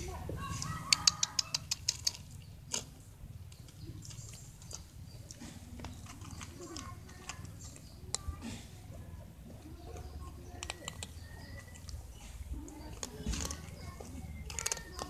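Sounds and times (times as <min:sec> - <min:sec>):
cats crunching dry food: 0:00.4 - 0:15.0.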